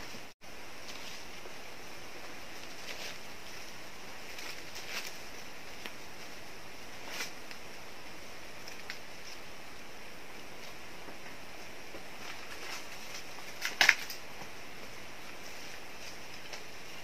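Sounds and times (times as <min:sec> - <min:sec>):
forest background hiss: 0:00.0 - 0:17.0.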